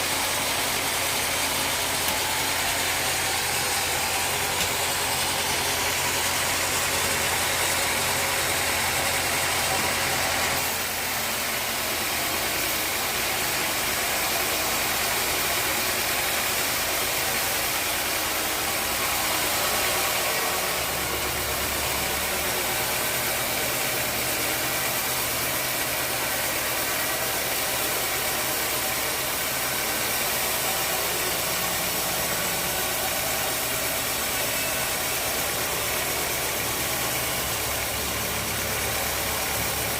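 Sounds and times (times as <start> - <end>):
engine hum: 0.0 - 39.9
saw running: 0.0 - 39.9.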